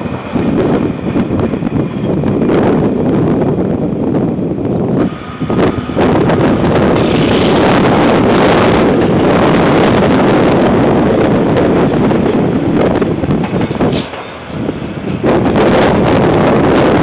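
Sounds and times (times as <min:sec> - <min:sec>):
freight train rumbling past: 0:00.0 - 0:17.0
wind buffeting microphone: 0:00.0 - 0:17.0.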